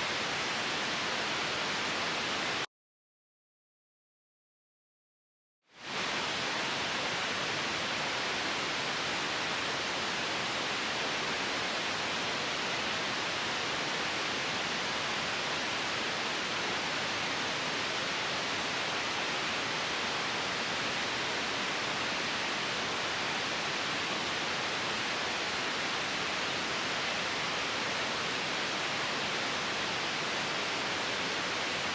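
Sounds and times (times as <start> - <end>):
steady white noise hiss: 0.0 - 2.7, 5.7 - 31.9.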